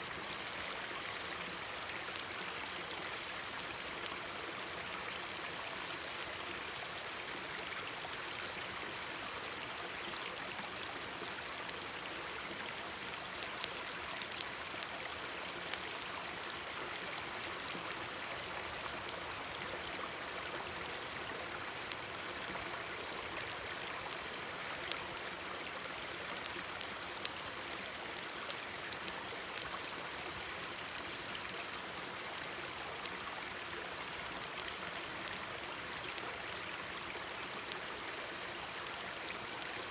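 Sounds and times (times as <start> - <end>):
mountain stream babbling: 0.0 - 39.9
campfire crackling and popping: 0.2 - 4.3, 7.4 - 10.2, 10.8 - 31.2, 34.1 - 39.8.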